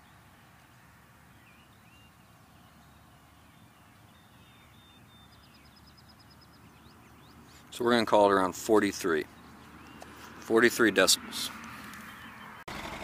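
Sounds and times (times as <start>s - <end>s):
distant birds chirping: 0.0s - 13.0s.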